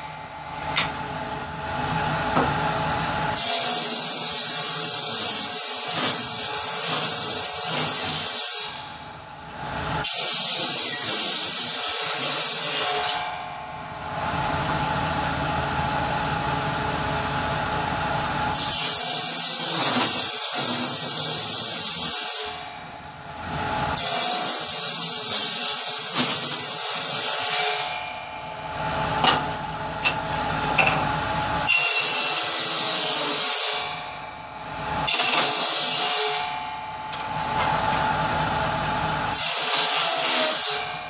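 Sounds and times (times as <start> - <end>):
power saw cutting wood: 0.0 - 9.0, 9.6 - 15.4, 18.4 - 41.0.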